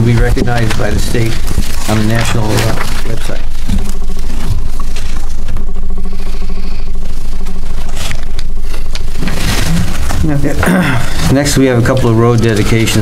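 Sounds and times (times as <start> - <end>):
electrical hum with buzzing: 0.0 - 13.0.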